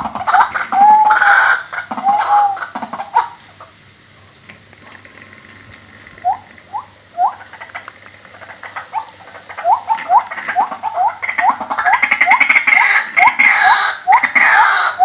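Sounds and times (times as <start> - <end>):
waterhen calling: 0.0 - 3.8, 5.3 - 15.0.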